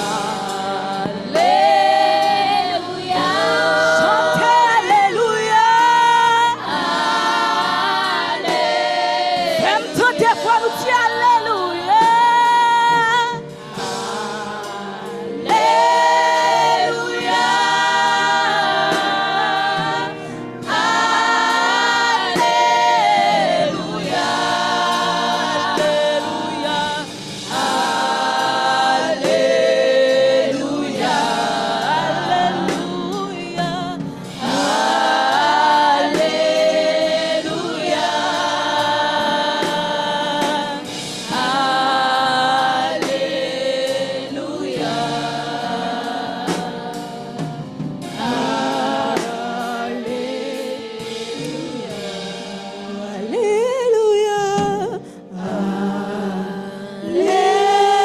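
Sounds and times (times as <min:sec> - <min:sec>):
instrumental accompaniment: 0:00.0 - 0:58.0
women's group singing gospel: 0:00.0 - 0:58.0.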